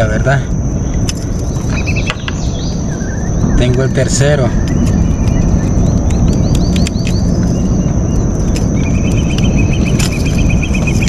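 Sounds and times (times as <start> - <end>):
high insect drone: 0.0 - 11.0
loud low rumble: 0.0 - 11.0
bird chirps: 0.6 - 11.0
bird chattering trill: 0.7 - 11.0.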